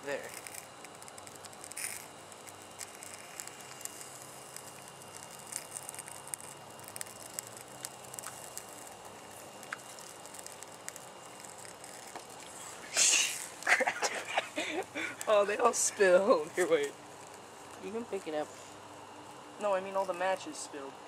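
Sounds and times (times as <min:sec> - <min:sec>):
small fire crackling: 0:00.0 - 0:21.0.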